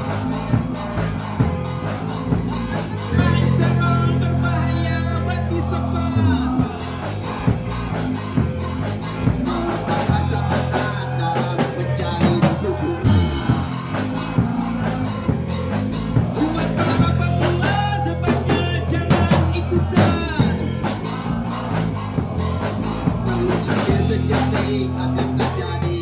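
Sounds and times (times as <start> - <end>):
rock song with singing: 0.0 - 26.0.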